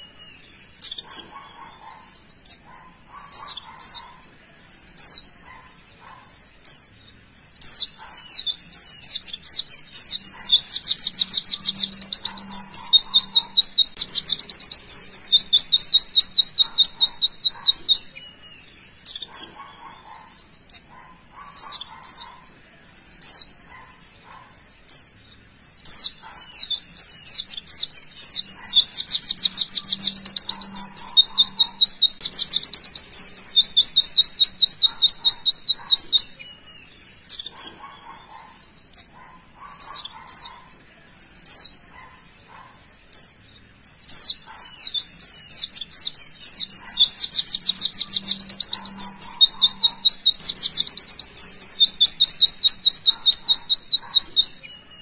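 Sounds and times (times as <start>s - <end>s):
bird chirping and trilling: 0.0s - 55.0s.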